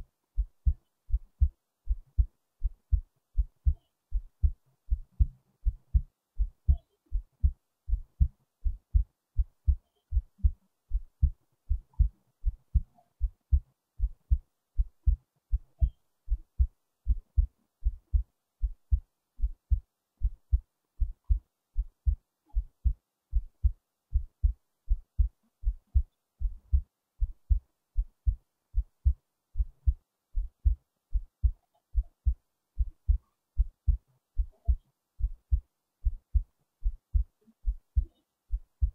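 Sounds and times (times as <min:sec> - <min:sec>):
human heartbeat thumps: 0:00.4 - 0:38.9.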